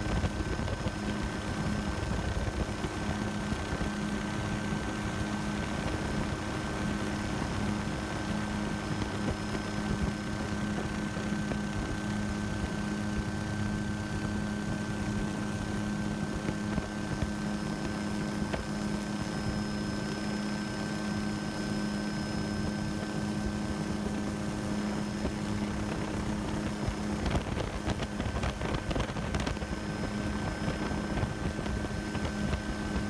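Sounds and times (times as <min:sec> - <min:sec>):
faint high whine: 0:00.0 - 0:33.0
helicopter engine and rotor drone: 0:00.0 - 0:33.0.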